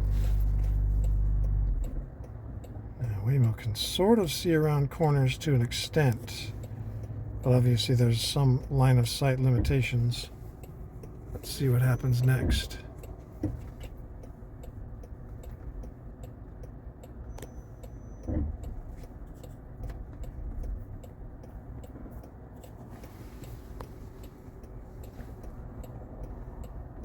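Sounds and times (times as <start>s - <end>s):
car cabin road noise: 0.0s - 27.0s
steady light ticking: 0.0s - 27.0s.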